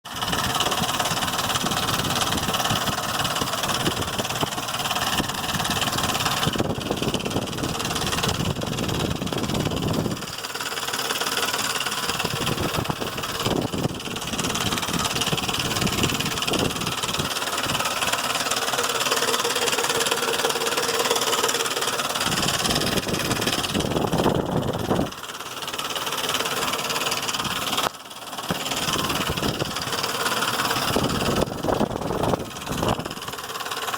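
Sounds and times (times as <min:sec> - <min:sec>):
car engine with mechanical noise: 0:00.0 - 0:33.9.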